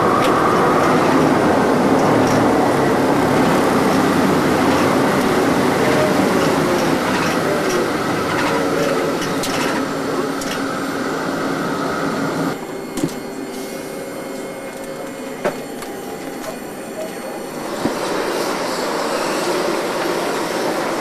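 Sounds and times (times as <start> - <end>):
hovercraft turbines and fans running: 0.0 - 21.0.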